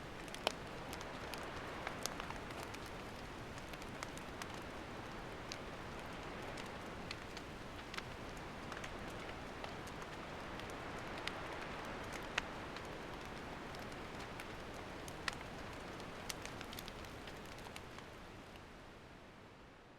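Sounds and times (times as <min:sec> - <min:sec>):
campfire hiss: 0:00.0 - 0:18.8
campfire pops: 0:00.1 - 0:18.1.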